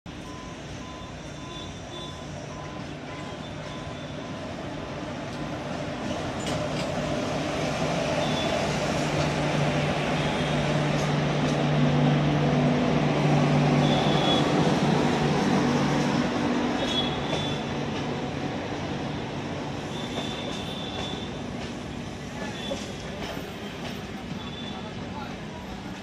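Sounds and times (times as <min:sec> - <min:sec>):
train wheels rumbling on rails: 0:02.1 - 0:26.0.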